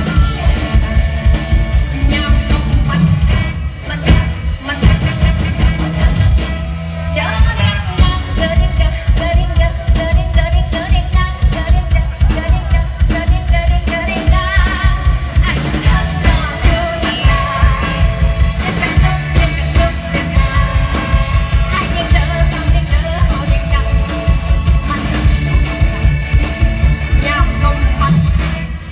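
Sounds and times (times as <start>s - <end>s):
band with fast bass beat: 0.0s - 28.9s
woman singing into a microphone: 1.9s - 5.3s, 7.2s - 26.1s, 27.1s - 28.9s.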